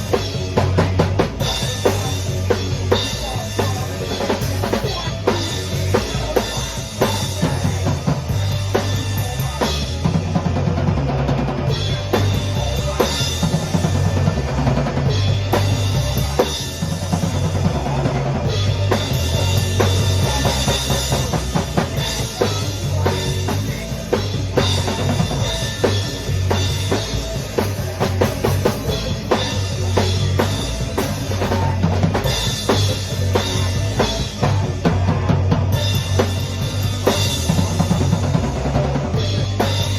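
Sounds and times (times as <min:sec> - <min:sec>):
band playing: 0:00.0 - 0:39.9
bass line: 0:00.0 - 0:39.9
drum kit beat: 0:00.0 - 0:39.9.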